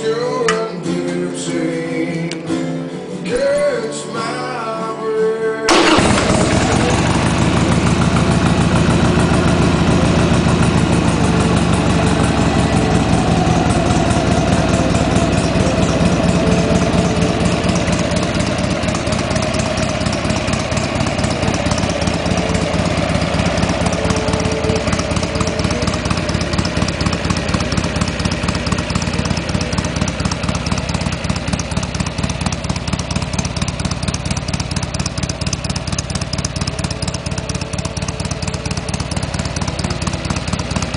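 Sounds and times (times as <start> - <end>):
motorcycle engine idling: 5.7 - 40.9.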